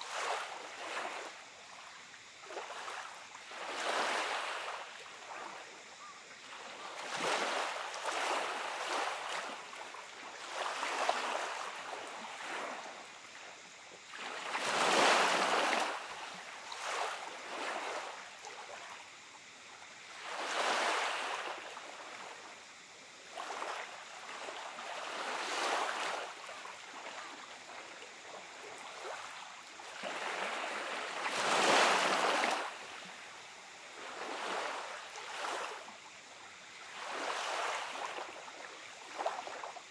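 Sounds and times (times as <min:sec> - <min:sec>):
small waves washing on beach: 0:00.0 - 0:39.9.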